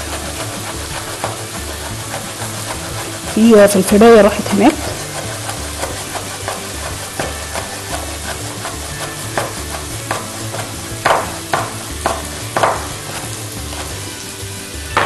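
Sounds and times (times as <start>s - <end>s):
knife cutting on wooden board: 0.0s - 14.0s
onions sizzling in a frying pan: 0.0s - 15.0s.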